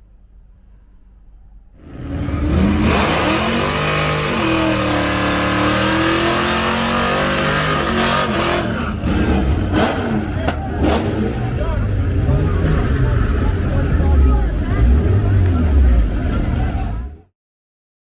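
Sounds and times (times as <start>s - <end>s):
vehicle engine revving: 1.8s - 17.3s.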